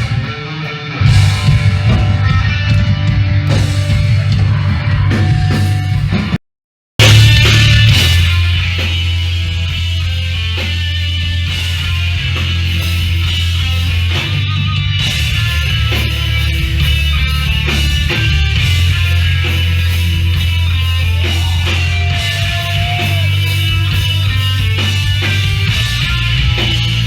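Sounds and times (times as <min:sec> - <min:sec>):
rock band playing live: 0:00.0 - 0:06.4, 0:07.0 - 0:27.0.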